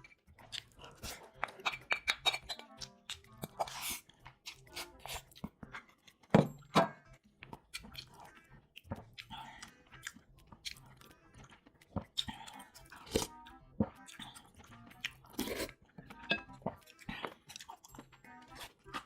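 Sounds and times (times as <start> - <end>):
wet mouth sounds: 0.0 - 6.3, 7.4 - 19.0
chewing with crisp crunches: 0.0 - 19.0
soft music: 0.0 - 19.0.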